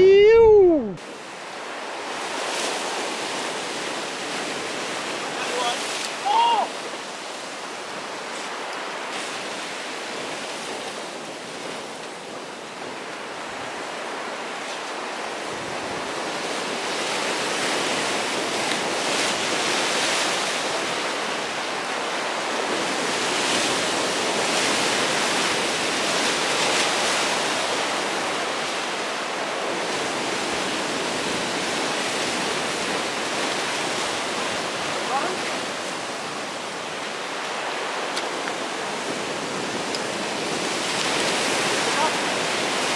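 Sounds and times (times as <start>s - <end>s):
ocean surf over rocks: 0.0s - 42.9s.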